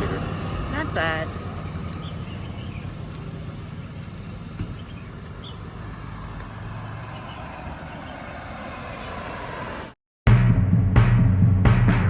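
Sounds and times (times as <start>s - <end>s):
motor vehicle rumble: 0.0s - 12.0s.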